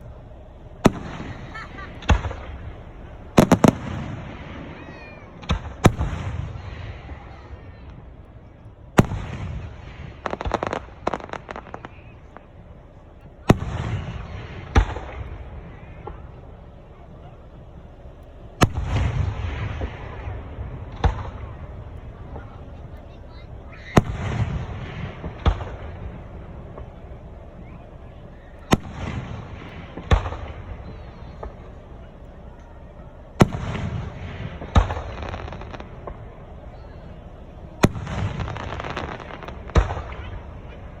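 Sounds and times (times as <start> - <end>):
fireworks banging: 0.0 - 41.0
fireworks crackling pops: 0.0 - 41.0
low rumble: 0.0 - 41.0.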